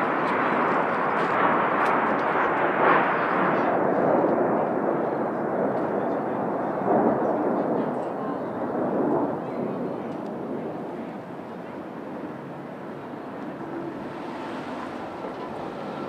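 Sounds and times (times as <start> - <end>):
jet roar: 0.0 - 16.0.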